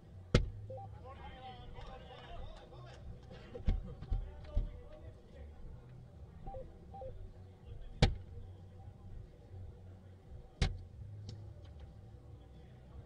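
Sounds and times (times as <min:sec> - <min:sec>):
low hall noise: 0:00.0 - 0:13.0.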